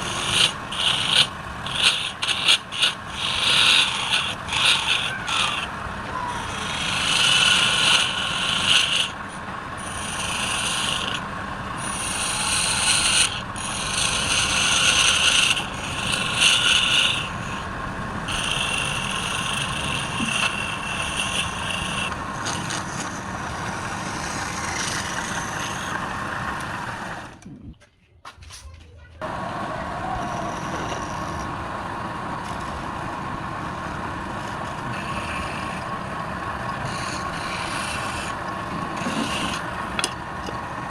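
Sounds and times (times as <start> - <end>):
turning tool scraping spinning wood: 0.0 - 27.4, 30.1 - 40.7
wood lathe humming: 0.0 - 27.4, 29.2 - 40.9.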